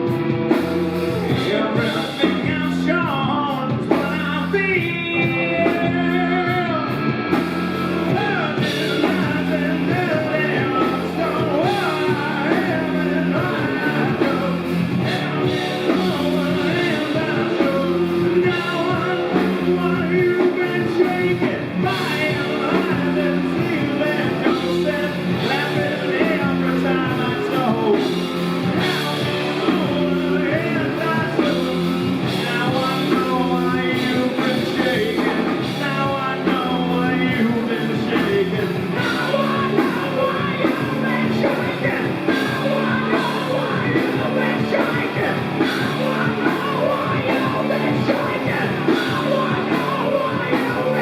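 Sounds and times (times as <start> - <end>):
person singing: 0.0 - 51.0
rock band playing: 0.0 - 51.0.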